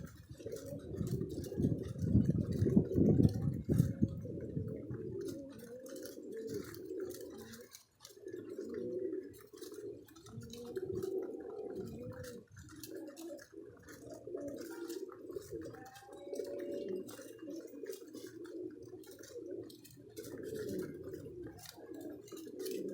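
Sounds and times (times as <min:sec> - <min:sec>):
pigeons cooing: 0:00.0 - 0:22.9.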